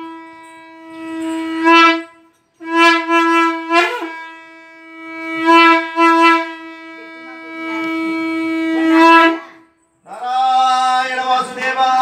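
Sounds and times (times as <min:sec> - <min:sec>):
conch shell blown: 0:00.0 - 0:09.8.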